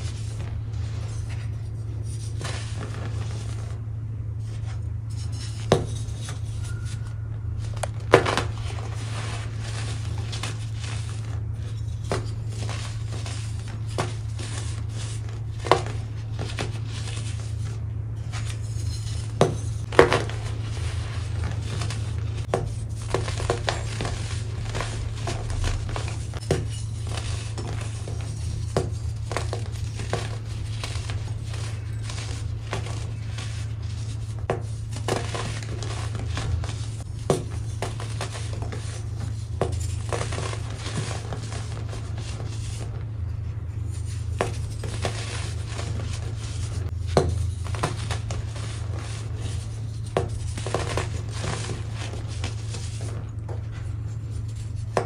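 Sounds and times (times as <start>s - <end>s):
low hum: 0.0s - 55.0s
hands crushing baking soda blocks: 7.6s - 42.9s, 43.9s - 53.3s.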